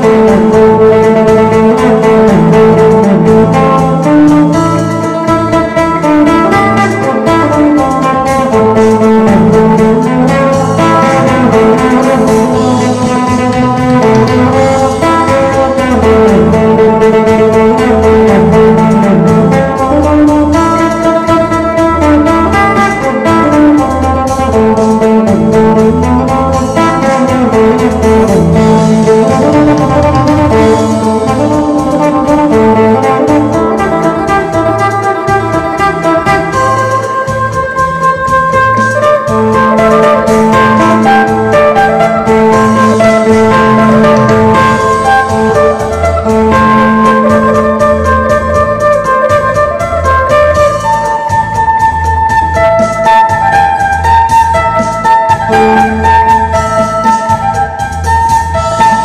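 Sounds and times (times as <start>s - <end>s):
accompaniment with bass line: 0.0s - 59.0s
plucked lute melody: 0.0s - 59.0s.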